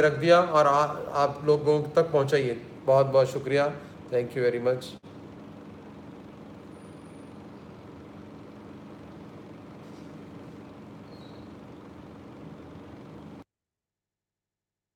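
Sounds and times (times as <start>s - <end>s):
low background hum: 0.0s - 13.4s.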